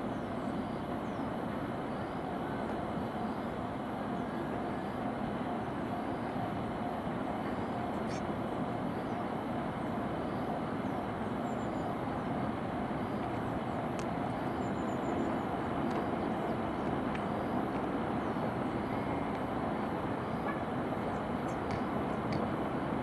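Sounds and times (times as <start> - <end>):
train passing: 0.0 - 23.0
distant traffic rumble: 0.4 - 23.0.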